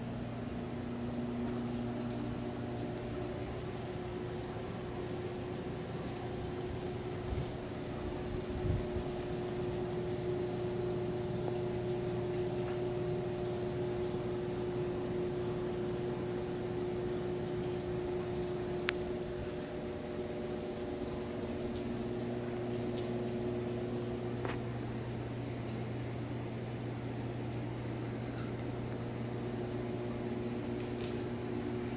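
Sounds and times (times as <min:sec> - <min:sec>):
mechanical hum: 0:00.0 - 0:31.9.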